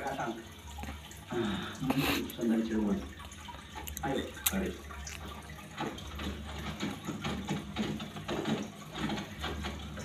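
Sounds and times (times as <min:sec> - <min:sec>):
aquarium water bubbling and splashing: 0:00.0 - 0:10.0
low filter pump hum: 0:00.0 - 0:10.0.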